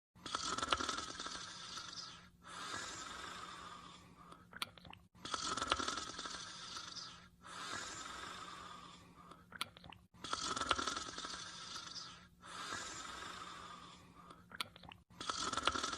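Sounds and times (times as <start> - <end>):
person snoring: 0.2 - 4.4, 5.2 - 9.4, 10.2 - 14.4, 15.1 - 15.9.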